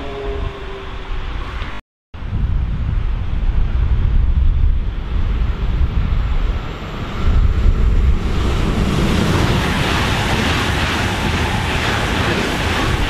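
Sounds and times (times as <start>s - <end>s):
high-speed train passing: 0.0s - 13.0s
wind buffeting the microphone: 0.3s - 13.0s.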